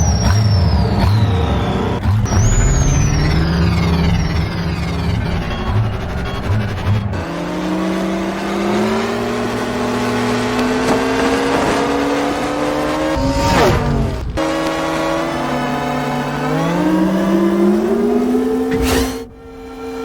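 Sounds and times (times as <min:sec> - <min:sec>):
synthetic engine hum rising: 0:00.0 - 0:20.0.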